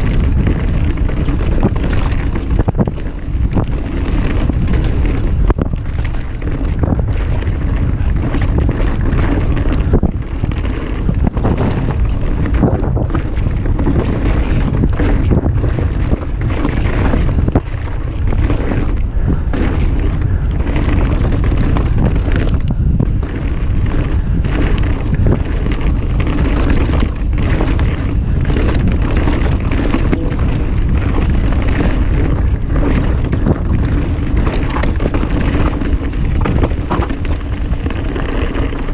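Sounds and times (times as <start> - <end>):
bike clicks and rattles: 0.0 - 38.9
bike tyres on dirt: 0.0 - 38.9
wind buffeting microphone: 0.0 - 38.9.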